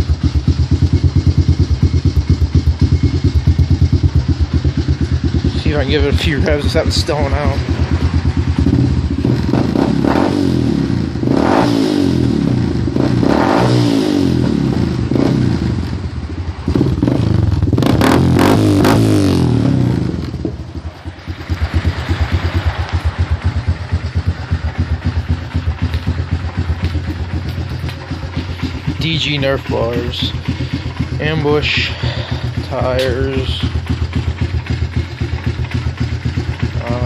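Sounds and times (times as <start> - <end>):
atv engine revving and idling: 0.0 - 37.0.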